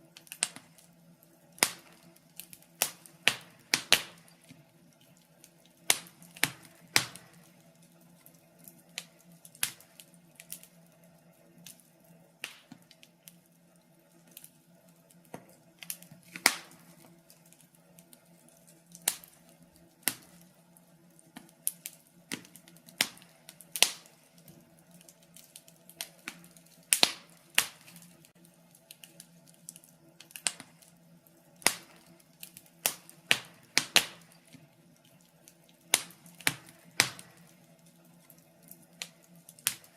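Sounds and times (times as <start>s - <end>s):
faint steady hum: 0.0s - 39.9s
logs crackling in a fireplace: 0.0s - 39.9s.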